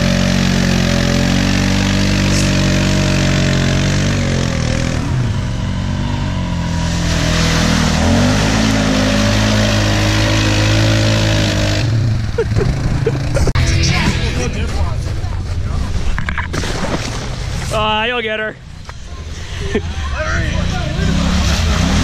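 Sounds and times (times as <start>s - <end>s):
atv engines revving: 0.0s - 22.0s.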